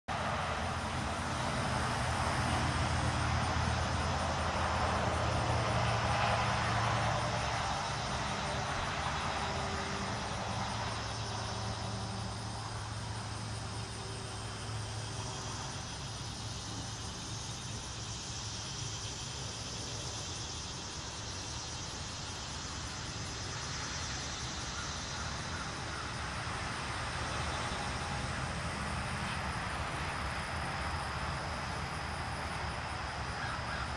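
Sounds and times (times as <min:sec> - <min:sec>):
distant motor vehicle noise: 0:00.1 - 0:33.9
pulsing insect chorus: 0:00.1 - 0:33.9.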